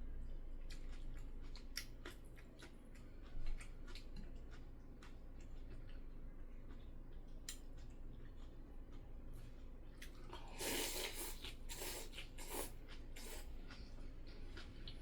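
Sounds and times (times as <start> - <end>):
squishy chewing: 0.1 - 15.0.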